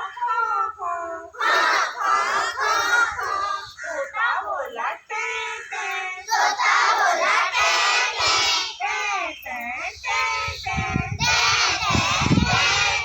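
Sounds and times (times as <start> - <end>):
children chanting: 0.0 - 4.2, 5.0 - 13.0.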